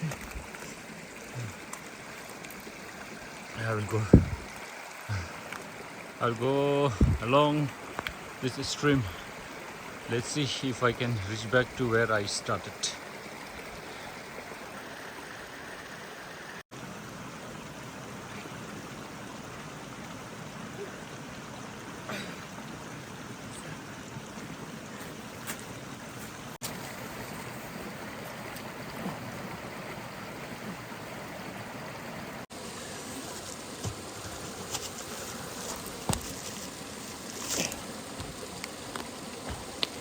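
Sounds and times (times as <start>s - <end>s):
stream water flowing: 0.0s - 40.0s.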